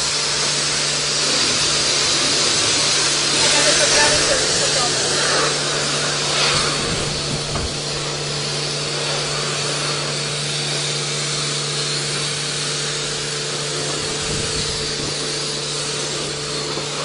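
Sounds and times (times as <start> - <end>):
pressure washer pump hum: 0.0 - 17.0
water jet hissing: 0.0 - 17.0.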